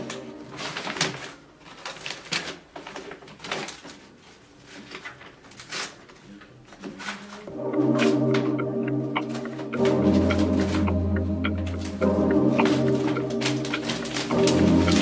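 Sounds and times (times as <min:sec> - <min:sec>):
wallpaper rustling and crinkling: 0:00.0 - 0:08.4, 0:09.2 - 0:15.0.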